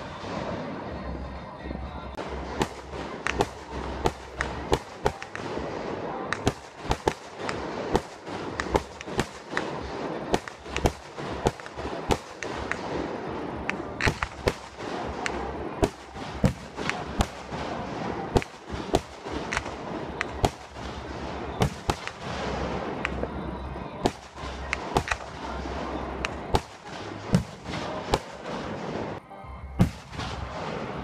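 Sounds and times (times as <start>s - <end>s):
steady rumble: 0.0s - 31.0s
fireworks bursting: 2.1s - 31.0s.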